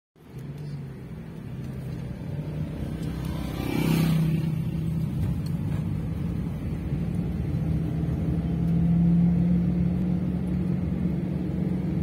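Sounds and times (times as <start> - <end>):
car engine and road noise: 0.2 - 12.0
motorcycle passing: 1.8 - 12.0.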